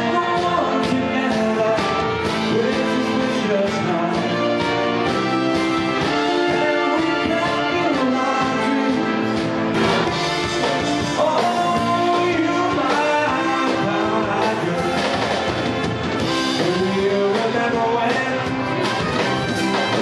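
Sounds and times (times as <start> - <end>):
brass horns sliding notes: 0.0 - 20.0
swing band playing live: 0.0 - 20.0.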